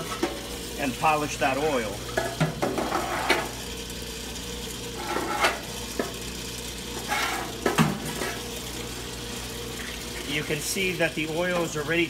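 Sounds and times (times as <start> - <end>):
oil gushing and splashing: 0.0 - 12.0
pump motor humming: 0.0 - 12.0.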